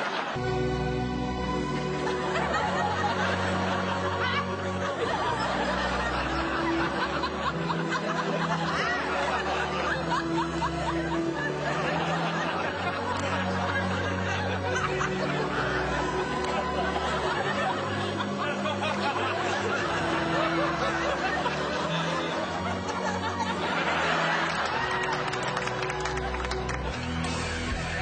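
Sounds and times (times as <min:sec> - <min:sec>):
background music with low notes: 0:00.0 - 0:28.0
studio audience laughing: 0:00.0 - 0:28.0.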